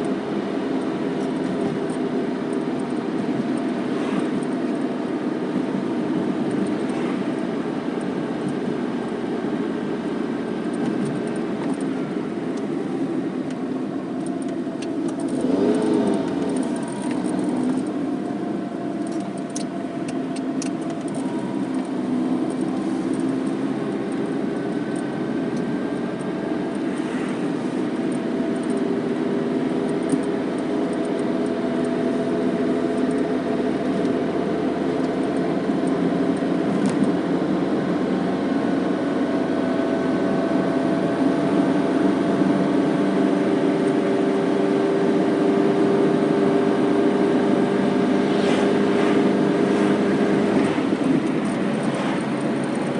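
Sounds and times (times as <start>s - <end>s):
car engine inside cabin: 0.0s - 52.9s
road noise: 0.0s - 52.9s.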